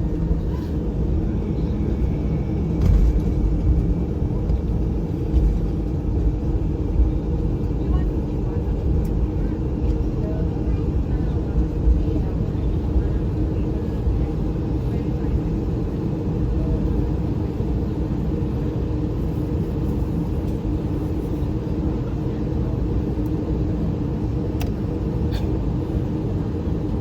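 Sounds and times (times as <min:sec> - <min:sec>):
aircraft cabin rumble and hum: 0:00.0 - 0:27.0.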